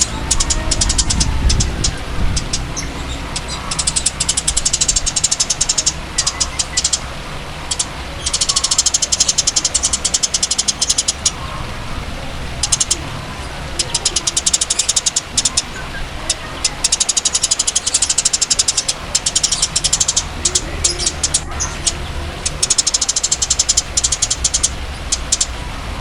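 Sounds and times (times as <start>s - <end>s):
songbird clicking trills: 0.0s - 11.7s, 12.6s - 25.6s
steady low hum: 0.0s - 26.0s.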